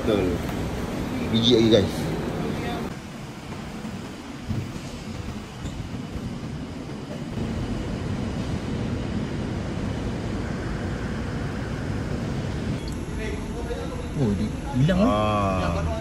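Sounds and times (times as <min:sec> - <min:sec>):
low urban rumble: 0:00.0 - 0:16.0.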